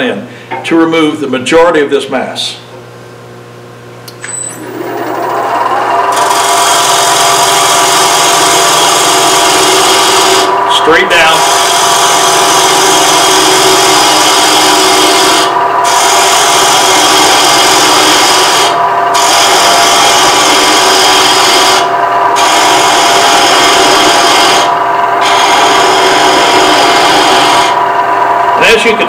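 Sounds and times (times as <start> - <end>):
lathe hum: 4.3 - 29.0.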